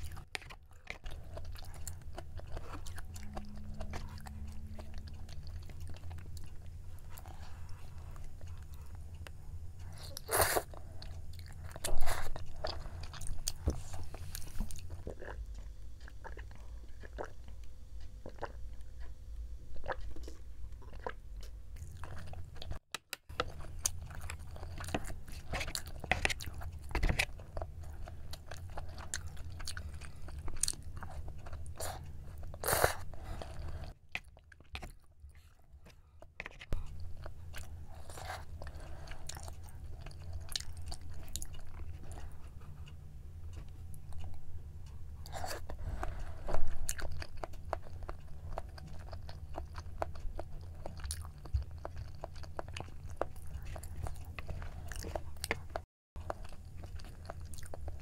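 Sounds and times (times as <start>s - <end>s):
chewing and wet mouth sounds: 0.0s - 58.0s
steady low hum: 0.0s - 58.0s.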